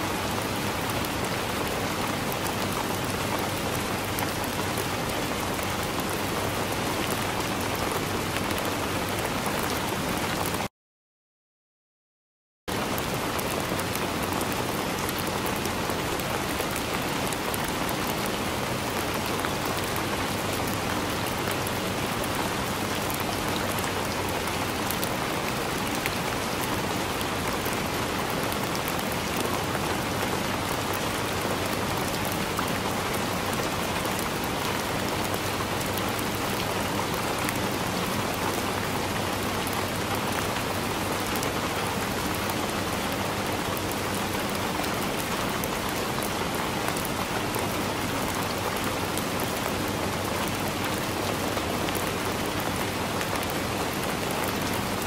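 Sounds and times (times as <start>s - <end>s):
heavy rain on a window: 0.0s - 10.7s, 12.7s - 55.0s.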